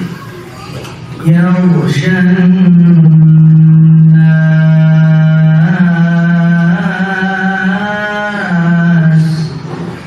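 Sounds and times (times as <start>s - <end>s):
man reciting melodically: 1.2s - 9.6s.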